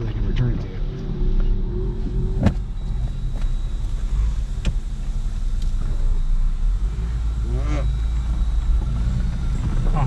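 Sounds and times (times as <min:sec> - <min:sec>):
off-road vehicle engine rumble: 0:00.0 - 0:10.0.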